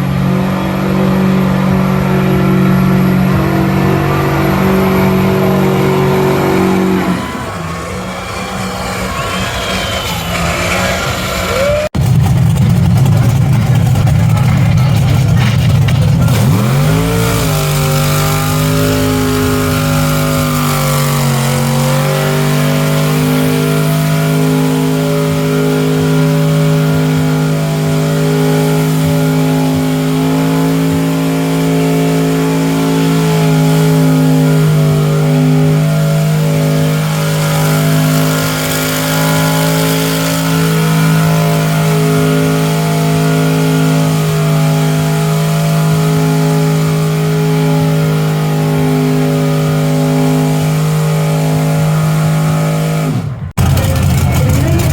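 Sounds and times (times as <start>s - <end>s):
truck engine revving high: 0.0s - 54.9s.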